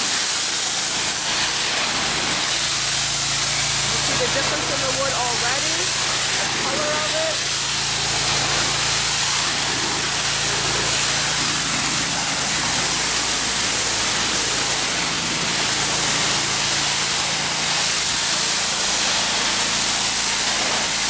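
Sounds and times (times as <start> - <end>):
pressure washer spraying wood: 0.0 - 21.0.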